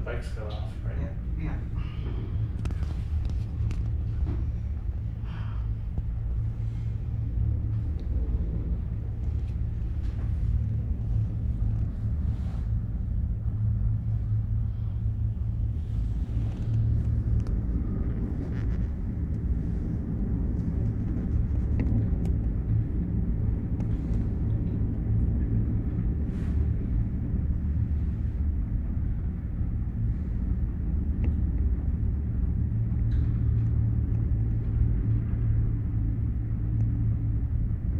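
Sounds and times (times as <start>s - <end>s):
gondola cabin rumble: 0.0s - 37.9s.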